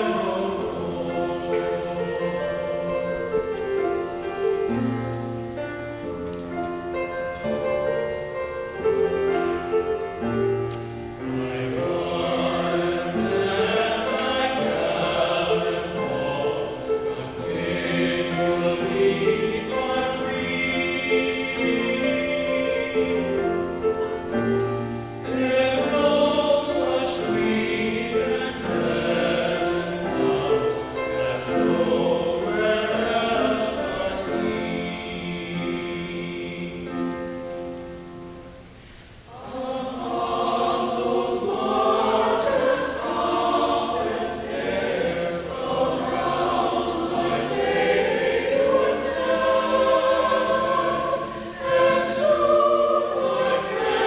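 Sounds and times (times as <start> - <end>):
mixed choir singing: 0.0 - 6.2, 6.8 - 38.4, 39.2 - 54.0.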